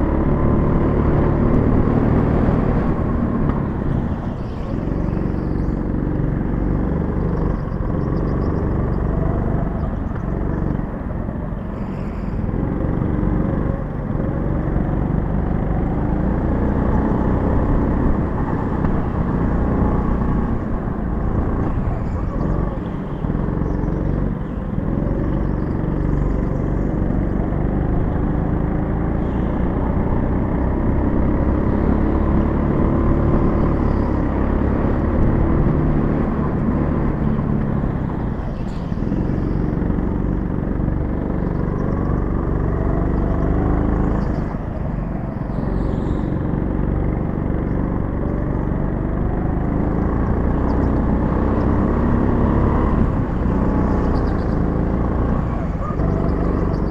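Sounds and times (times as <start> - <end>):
go-kart motor running: 0.0 - 56.9.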